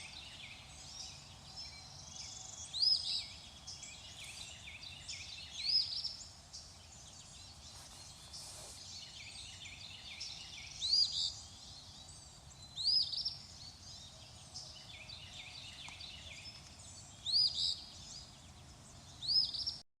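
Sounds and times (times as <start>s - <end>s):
chorus of bird chirps: 0.0s - 19.8s.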